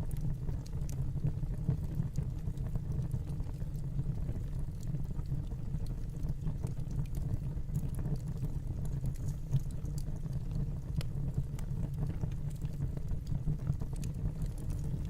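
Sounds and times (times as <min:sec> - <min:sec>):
fire crackles and pops: 0:00.0 - 0:15.0
fire low rumble: 0:00.0 - 0:15.0.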